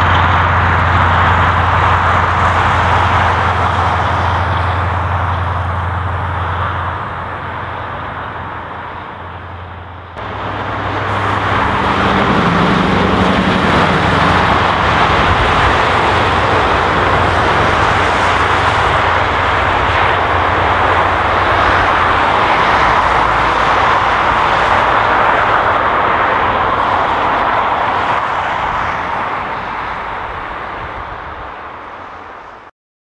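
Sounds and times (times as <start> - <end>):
heavy truck driving on highway: 0.0 - 32.7.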